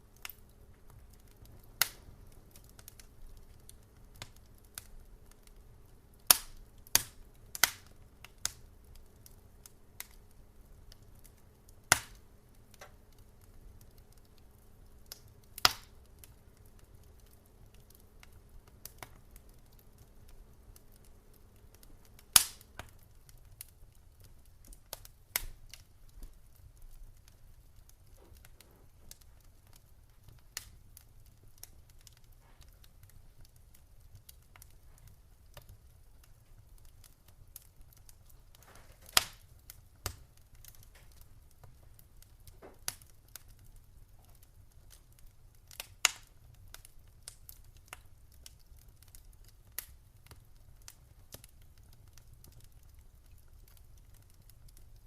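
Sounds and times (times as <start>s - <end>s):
faint low hum: 0.0s - 45.4s
wood fire crackling: 0.0s - 55.0s.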